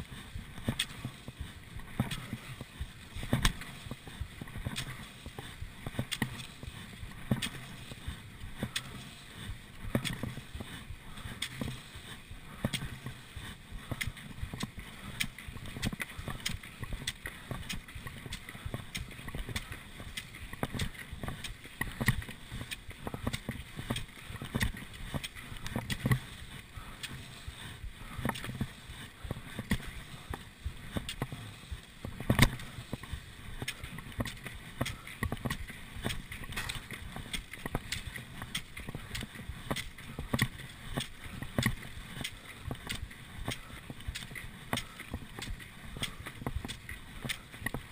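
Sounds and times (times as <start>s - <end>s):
skis gliding and scraping: 0.0s - 47.9s
ski pole knocks and clicks: 1.8s - 7.9s, 9.8s - 10.7s, 13.9s - 26.3s, 28.1s - 31.4s, 32.0s - 47.9s.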